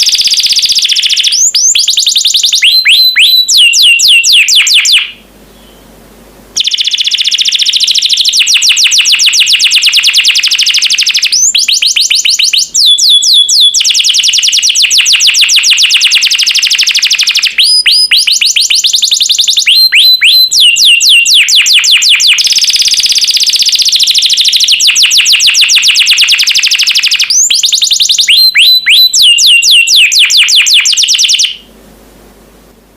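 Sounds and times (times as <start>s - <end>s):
canary singing trills: 0.0s - 6.0s, 6.6s - 31.7s.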